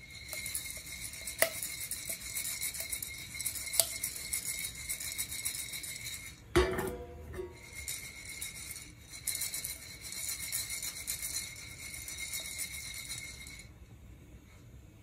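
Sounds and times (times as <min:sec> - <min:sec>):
coffee beans rattling: 0:00.0 - 0:06.5, 0:07.5 - 0:13.8.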